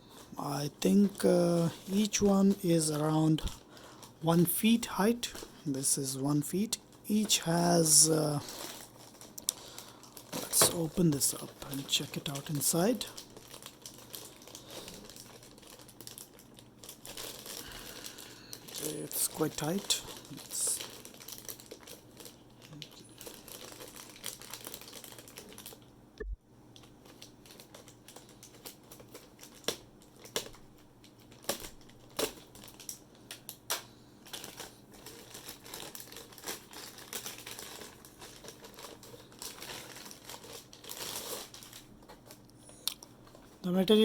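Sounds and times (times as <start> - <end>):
plastic wrapping crinkling: 0.2 - 5.9, 6.5 - 25.9, 26.8 - 44.0.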